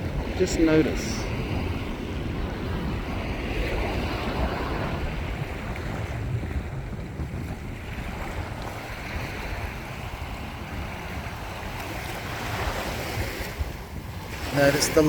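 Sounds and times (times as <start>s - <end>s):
small waves on shallow water: 0.0s - 15.0s
wind buffeting microphone: 0.0s - 15.0s.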